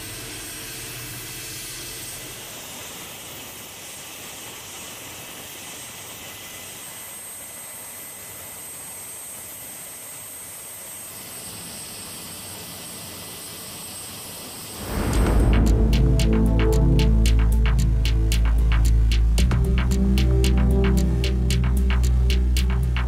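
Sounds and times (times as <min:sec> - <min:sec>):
aircraft turbine hiss and whine: 0:00.0 - 0:23.0.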